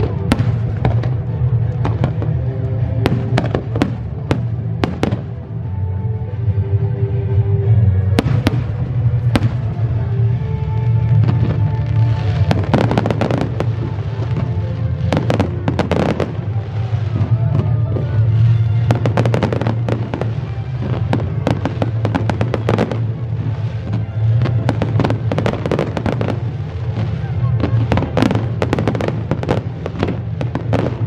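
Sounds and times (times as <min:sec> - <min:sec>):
fireworks bangs and crackling: 0:00.0 - 0:05.7, 0:07.8 - 0:31.0
music with low bass: 0:00.0 - 0:31.0.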